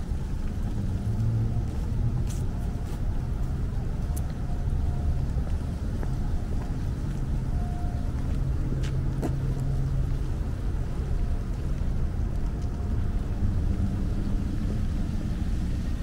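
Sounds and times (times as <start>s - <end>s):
low engine hum: 0.0s - 16.0s
street traffic rumbling: 0.0s - 16.0s.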